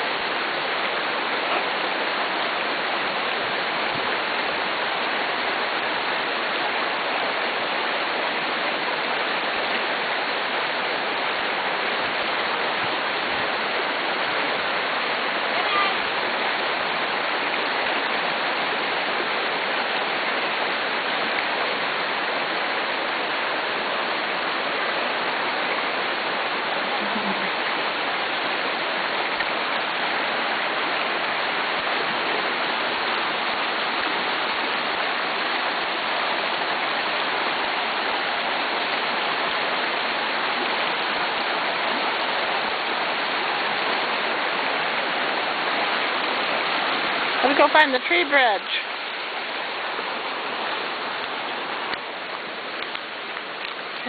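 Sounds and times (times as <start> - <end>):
stream splashing over rocks: 0.0 - 54.0.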